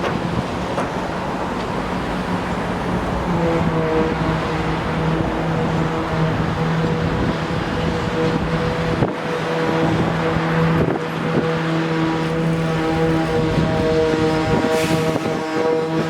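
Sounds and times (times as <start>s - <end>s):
noisy rumble: 0.0s - 16.0s
machine humming: 0.1s - 16.0s.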